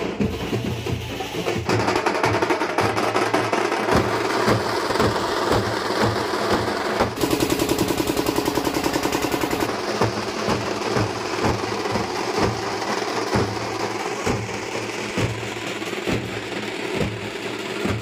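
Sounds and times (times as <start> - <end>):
fast drum roll: 0.0 - 18.0
procession band drums: 0.0 - 18.0.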